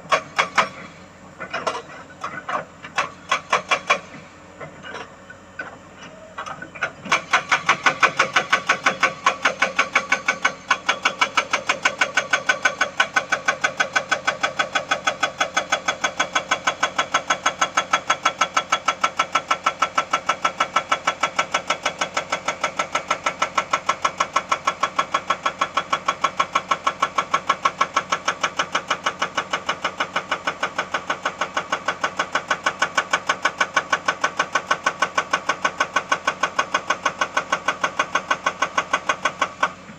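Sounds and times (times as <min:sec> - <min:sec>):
hydraulic rock breaker hammering: 0:00.0 - 0:05.7, 0:06.3 - 0:39.9.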